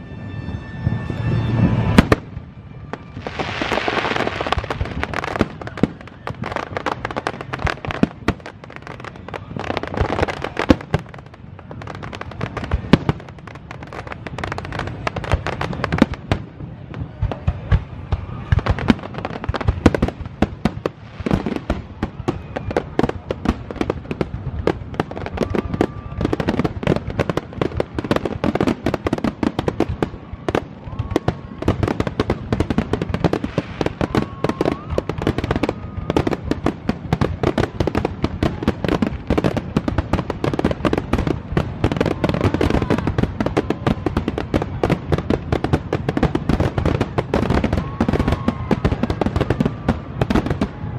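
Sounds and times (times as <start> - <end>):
fireworks bursts and crackle: 0.0 - 50.9.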